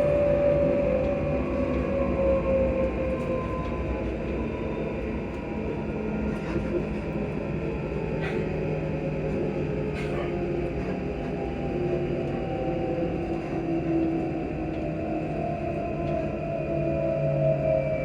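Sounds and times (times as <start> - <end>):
rumble of train wheels: 0.0 - 18.0
train traction motors humming: 0.0 - 18.0.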